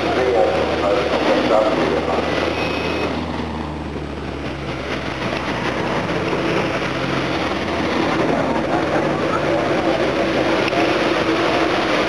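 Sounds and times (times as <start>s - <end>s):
car engines running at low revs: 0.0s - 12.0s.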